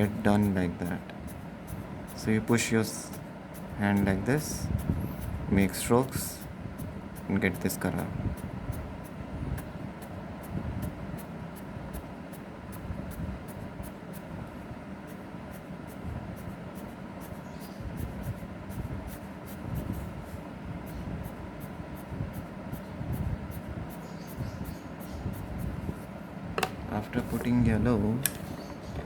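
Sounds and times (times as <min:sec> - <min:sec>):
colouring scratching on paper: 0:00.0 - 0:26.2
low background rumble: 0:00.0 - 0:29.0.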